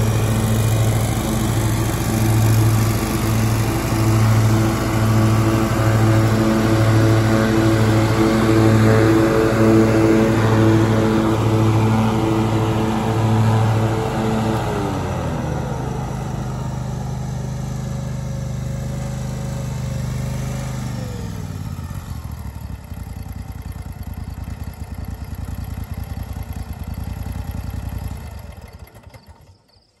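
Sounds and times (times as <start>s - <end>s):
mower engine running and idling: 0.0s - 29.8s.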